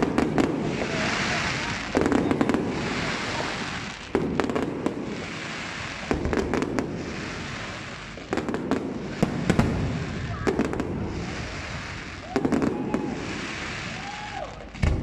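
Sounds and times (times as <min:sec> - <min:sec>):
firework pops and crackles: 0:00.0 - 0:15.0
firework shells bursting: 0:00.0 - 0:15.0.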